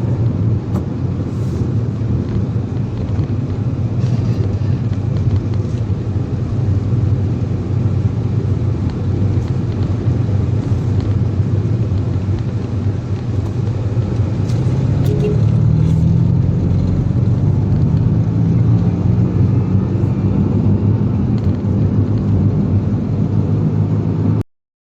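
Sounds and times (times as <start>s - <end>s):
car engine: 0.0s - 24.4s
road noise: 0.0s - 24.4s.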